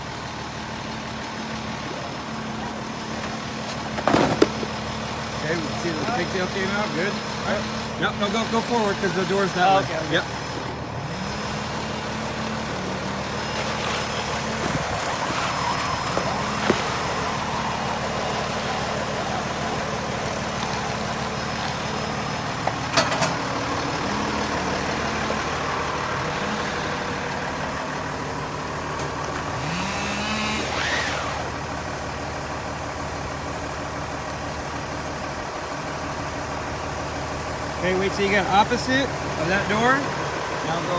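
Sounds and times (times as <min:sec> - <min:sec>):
truck engine revving: 0:00.0 - 0:33.2.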